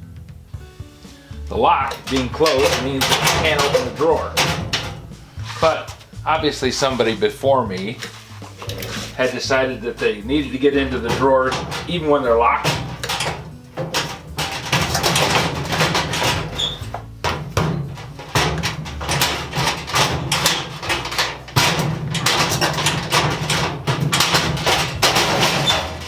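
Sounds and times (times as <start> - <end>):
metal drawer scraping: 1.5 - 26.0.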